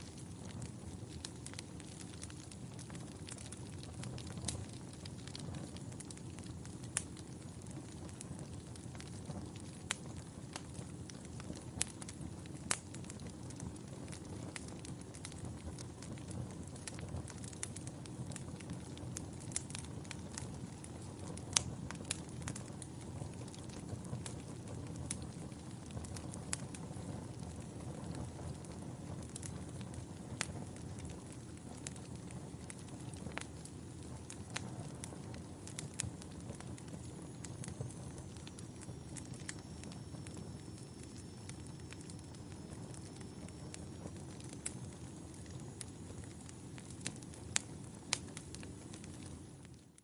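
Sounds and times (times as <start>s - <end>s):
flames rushing: 0.0s - 49.8s
logs crackling and popping in fire: 0.0s - 50.0s.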